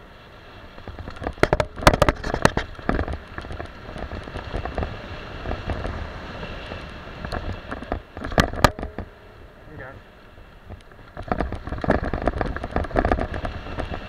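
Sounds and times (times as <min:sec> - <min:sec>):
bike rattling over bumps: 0:00.0 - 0:14.0
bike tyres rumbling on dirt: 0:00.0 - 0:14.0
wind on microphone: 0:00.8 - 0:09.6, 0:10.4 - 0:14.0.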